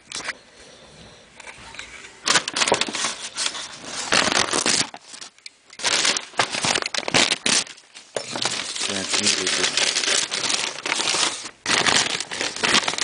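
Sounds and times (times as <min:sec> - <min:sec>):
bags crinkling and rustling: 0:02.2 - 0:13.0.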